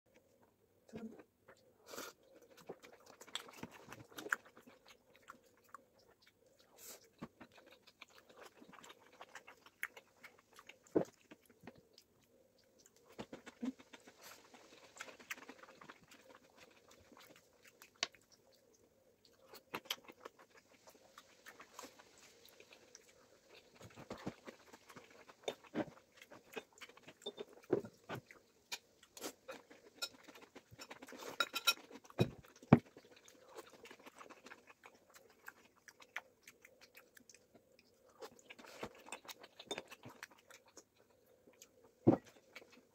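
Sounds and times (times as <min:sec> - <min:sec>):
chewing wet mouth sounds: 0:00.9 - 0:42.9.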